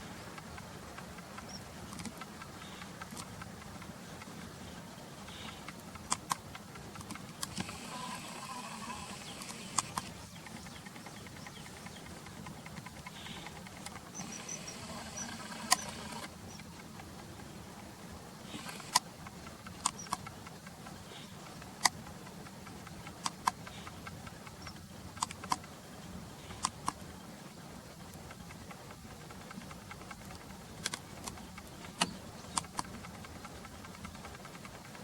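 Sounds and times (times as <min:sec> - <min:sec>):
steady low hum: 0:00.0 - 0:35.0
sharp clicks: 0:00.1 - 0:04.3, 0:05.3 - 0:25.8, 0:26.4 - 0:27.2, 0:27.9 - 0:35.0.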